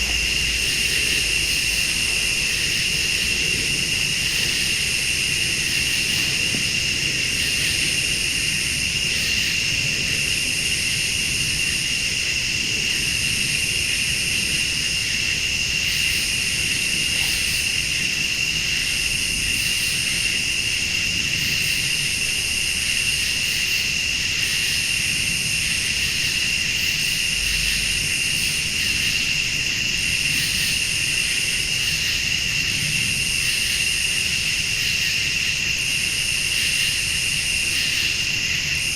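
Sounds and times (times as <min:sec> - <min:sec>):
crickets trilling: 0:00.0 - 0:38.9
high insect call: 0:00.0 - 0:38.9.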